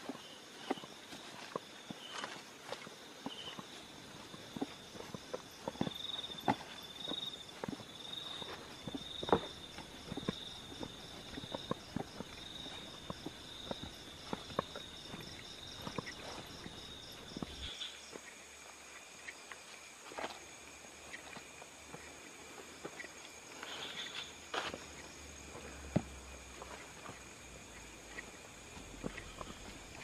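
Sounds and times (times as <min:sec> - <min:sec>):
footsteps on grass and path: 0:00.0 - 0:30.0
night insects trilling: 0:00.0 - 0:30.0.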